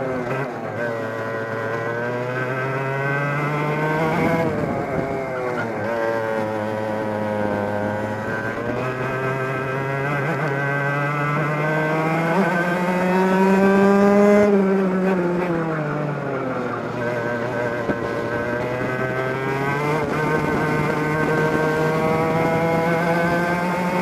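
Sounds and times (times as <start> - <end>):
two-stroke kart engine revving: 0.0 - 24.0.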